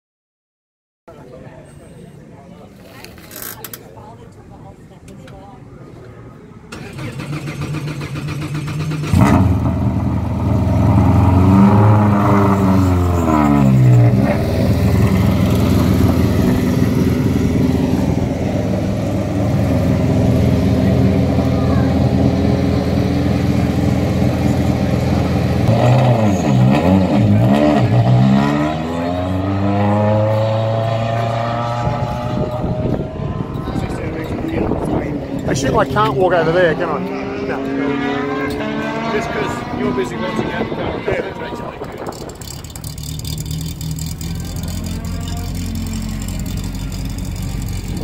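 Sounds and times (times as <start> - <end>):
race car engine idling and revving: 6.7 - 48.0.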